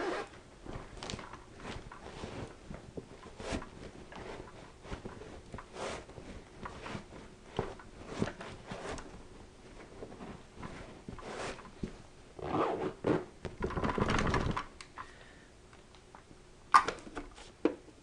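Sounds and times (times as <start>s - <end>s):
soft handling noises: 0.0s - 13.7s, 14.5s - 18.0s
rustling and crackling: 0.0s - 14.8s.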